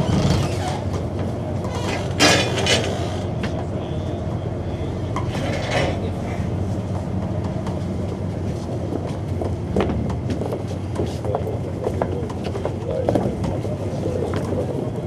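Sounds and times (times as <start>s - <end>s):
low rumble of trains: 0.0s - 15.0s.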